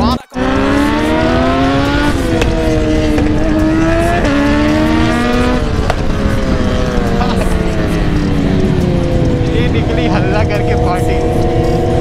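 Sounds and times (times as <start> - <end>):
motorcycle engine accelerating: 0.4 - 12.0
wind rush on microphone: 0.9 - 12.0.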